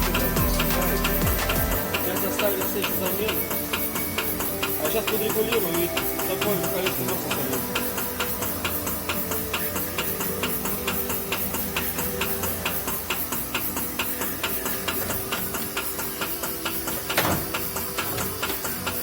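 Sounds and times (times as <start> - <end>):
music with ticking beat: 0.0 - 19.0.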